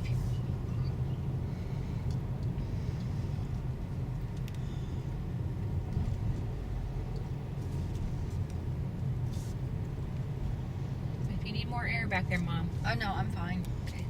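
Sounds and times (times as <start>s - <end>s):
car cabin road and engine rumble: 0.0s - 14.0s.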